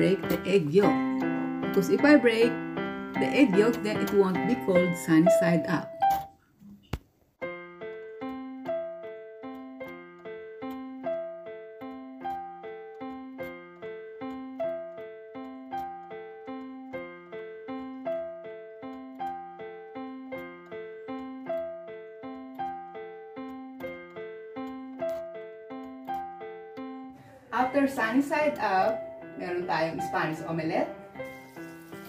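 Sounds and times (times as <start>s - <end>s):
piano repeating single notes: 0.0s - 6.4s, 7.4s - 32.0s.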